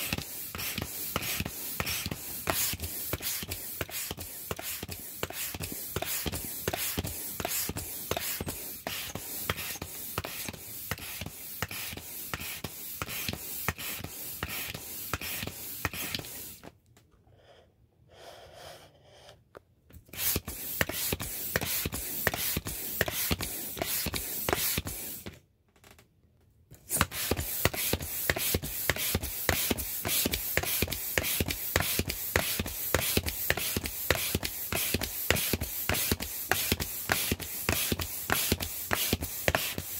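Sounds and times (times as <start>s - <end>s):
air pump puffing: 0.0s - 16.7s, 20.1s - 25.4s, 26.8s - 39.9s.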